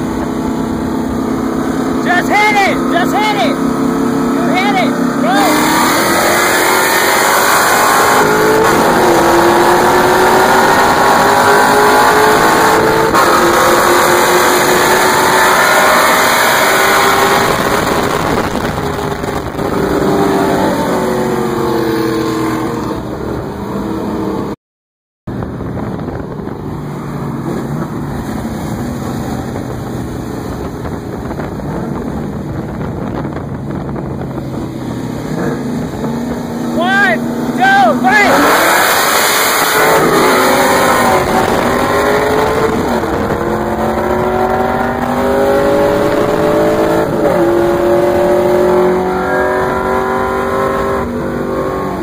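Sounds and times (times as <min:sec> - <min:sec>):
engines pulling hard: 0:00.0 - 0:24.5, 0:25.3 - 0:52.0
wind and road rush: 0:00.0 - 0:24.6, 0:25.3 - 0:52.0.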